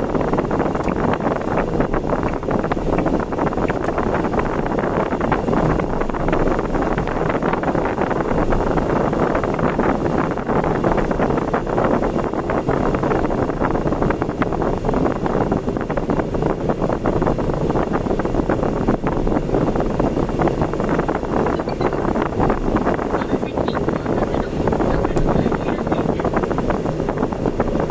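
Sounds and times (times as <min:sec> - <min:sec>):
road and wind noise: 0:00.0 - 0:27.9.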